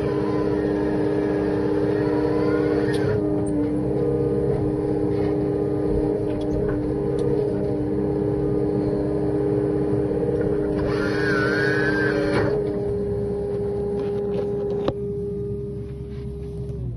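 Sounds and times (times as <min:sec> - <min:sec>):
high wavering whine: 0:00.0 - 0:16.9
hydraulic machine hum: 0:00.0 - 0:16.9.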